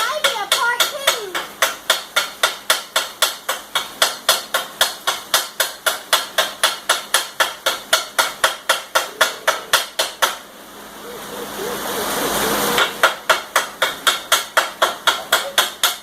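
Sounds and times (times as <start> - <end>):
hammer striking metal: 0.0 - 10.4, 12.8 - 16.0.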